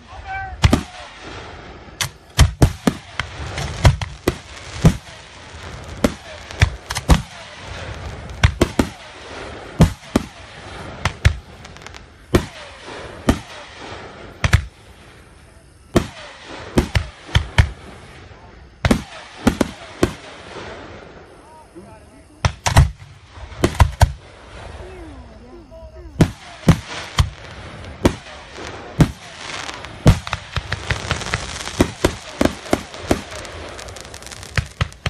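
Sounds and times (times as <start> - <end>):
firework shells booming: 0.0 - 21.4, 22.3 - 24.8, 26.2 - 35.0
firework crackling: 0.0 - 35.0.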